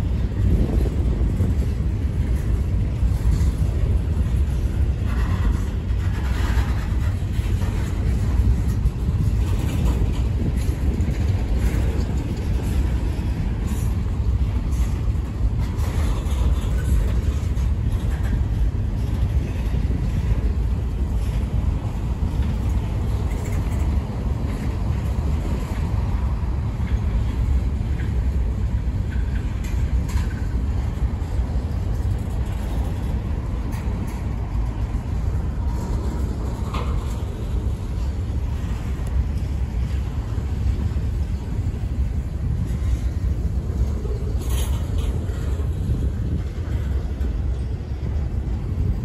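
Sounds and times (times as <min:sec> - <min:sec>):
freight train wheels rumbling: 0:00.0 - 0:49.0
faint clicks and clanks: 0:00.1 - 0:49.0.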